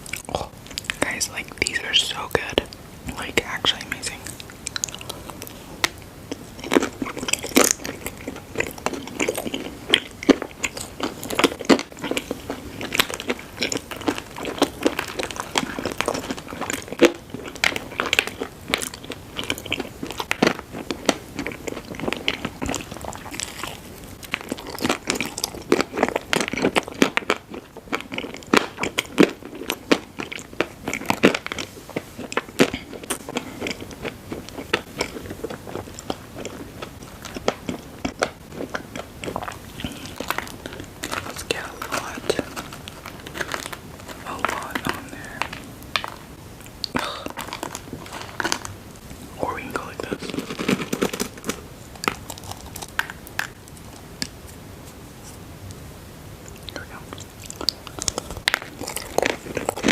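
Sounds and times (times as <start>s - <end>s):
person chewing crunchy sweets: 0.0s - 55.5s, 56.4s - 59.9s.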